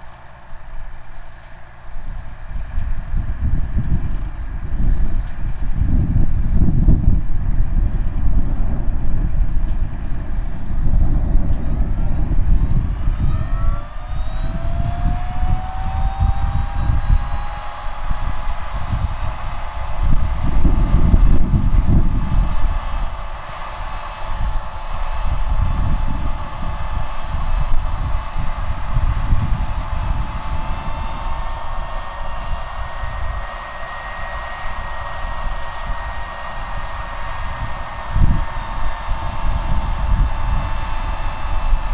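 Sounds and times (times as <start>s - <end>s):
high-pitched machine whine: 0.0s - 41.9s.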